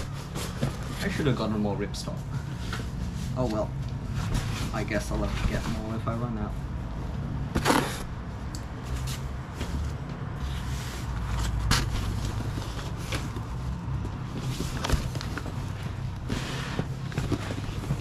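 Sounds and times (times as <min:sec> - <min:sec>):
fabric and boxes rustling: 0:00.0 - 0:06.5, 0:07.4 - 0:18.0.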